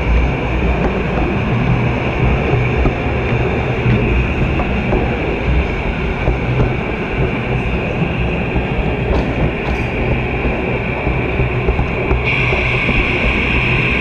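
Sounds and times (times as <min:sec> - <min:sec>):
model train rolling on track: 0:00.0 - 0:14.0.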